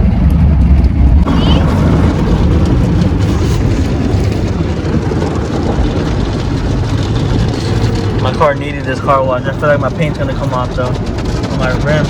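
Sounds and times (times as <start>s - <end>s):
automatic car wash rushing: 1.2s - 12.0s.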